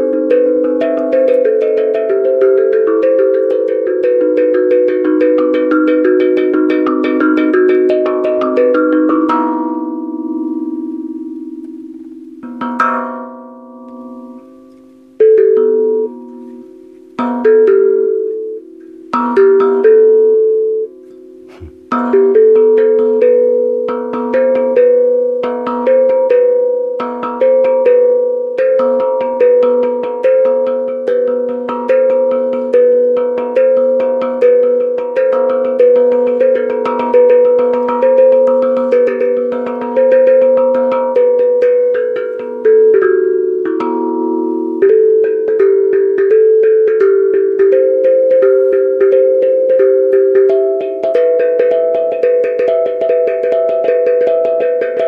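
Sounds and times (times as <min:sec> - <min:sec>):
pitched percussion struck by hand: 0:00.0 - 0:55.0.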